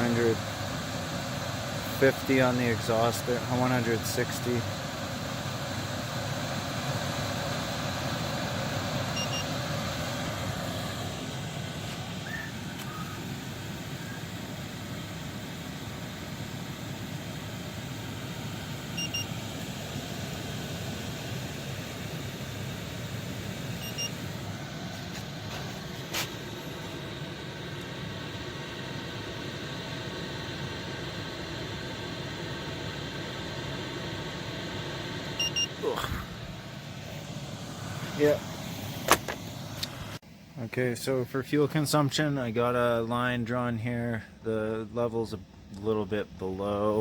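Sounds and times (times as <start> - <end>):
heater blower whoosh: 0.0 - 40.2.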